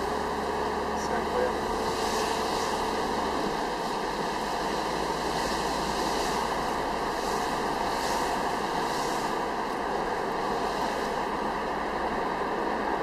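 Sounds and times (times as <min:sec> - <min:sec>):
tyre hiss on wet road: 0:00.0 - 0:12.9
low engine hum: 0:00.0 - 0:13.0.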